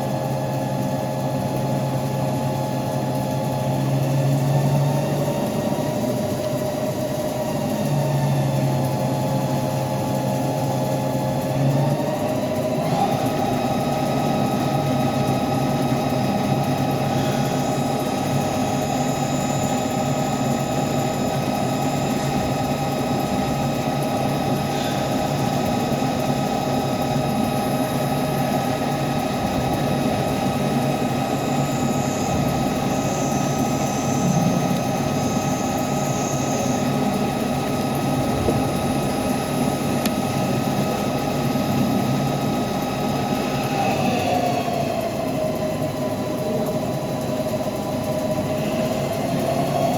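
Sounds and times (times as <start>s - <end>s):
lathe spindle whine: 0.0s - 49.9s
mechanical hum: 0.0s - 49.9s.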